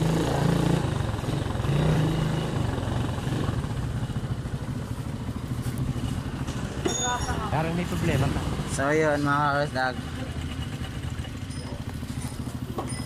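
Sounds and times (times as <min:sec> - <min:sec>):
motorcycle engine running slowly: 0:00.0 - 0:13.0.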